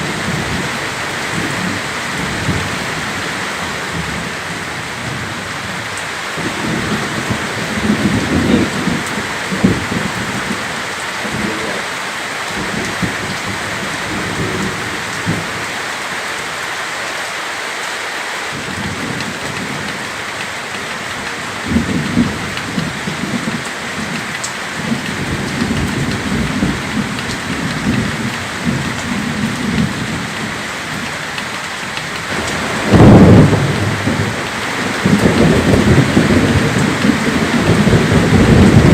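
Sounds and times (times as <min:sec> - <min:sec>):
thunder rumbling: 0:00.0 - 0:15.8, 0:18.5 - 0:38.9
heavy rain: 0:00.0 - 0:38.9.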